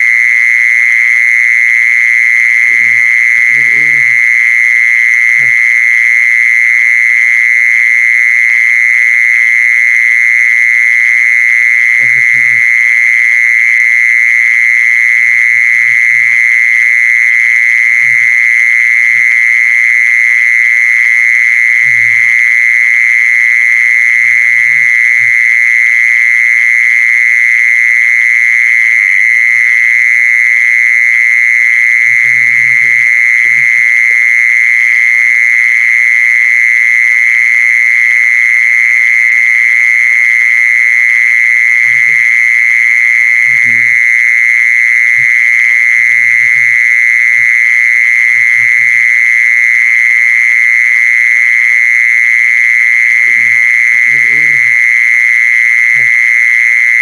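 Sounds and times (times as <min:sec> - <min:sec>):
insect trilling: 0:00.0 - 0:57.0.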